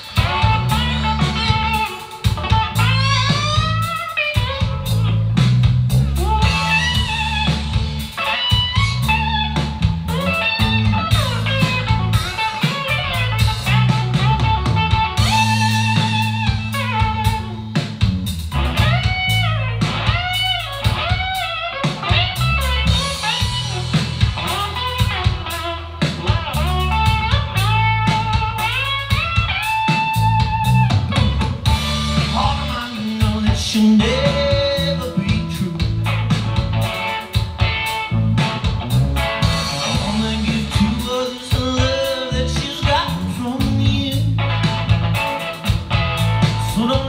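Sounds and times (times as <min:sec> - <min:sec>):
bass and drums: 0:00.0 - 0:47.0
electric guitar soloing: 0:00.0 - 0:47.0.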